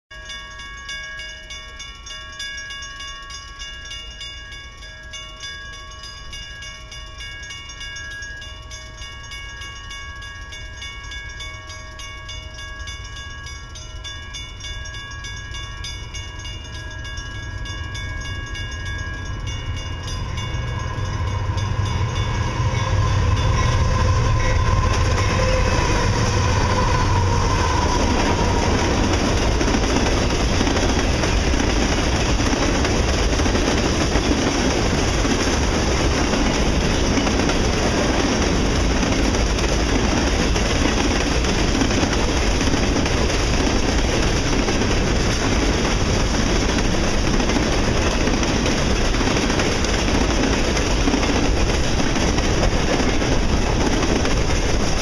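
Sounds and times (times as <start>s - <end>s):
crossing bell ringing: 0.1s - 55.0s
train rumbling past: 0.2s - 55.0s.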